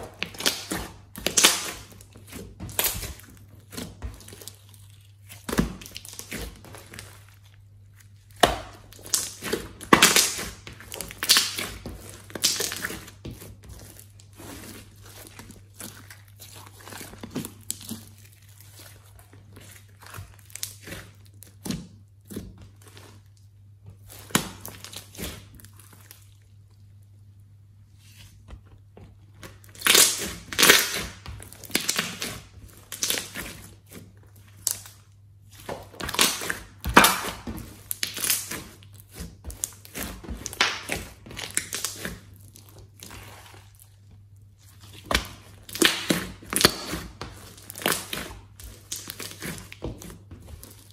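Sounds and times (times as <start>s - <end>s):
slime squishing and crackling: 0.0s - 50.9s.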